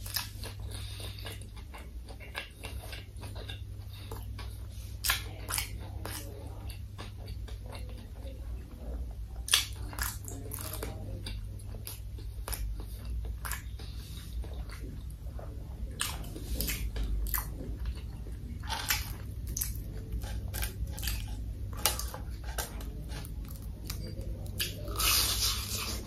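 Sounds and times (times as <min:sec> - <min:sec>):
chewing crispy fried food: 0:00.0 - 0:26.0.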